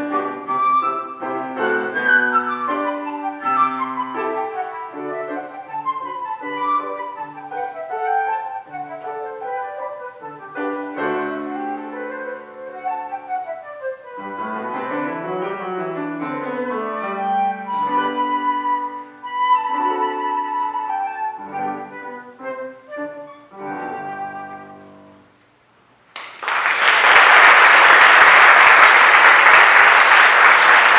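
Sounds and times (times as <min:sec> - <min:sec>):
solo woodwind melody: 0:00.0 - 0:25.5
piano accompaniment: 0:00.0 - 0:25.6.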